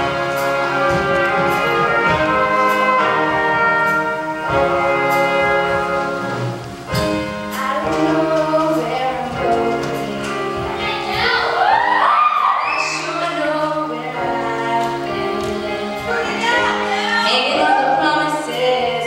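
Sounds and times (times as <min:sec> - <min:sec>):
horn section playing held chords: 0:00.0 - 0:12.0, 0:13.0 - 0:19.0.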